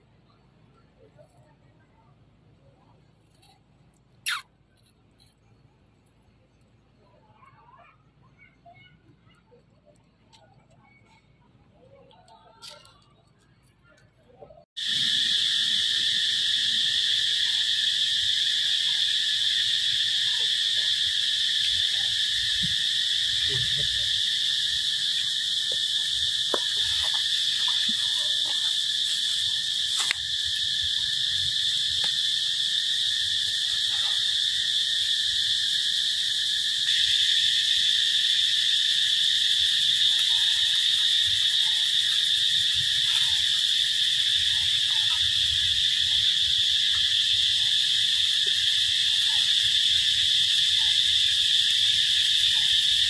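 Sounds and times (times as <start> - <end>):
insects calling: 2.7 - 53.0.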